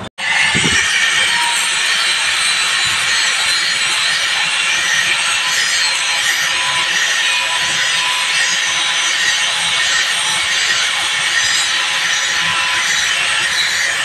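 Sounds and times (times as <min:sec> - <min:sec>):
angle grinder grinding steel: 0:00.0 - 0:14.0.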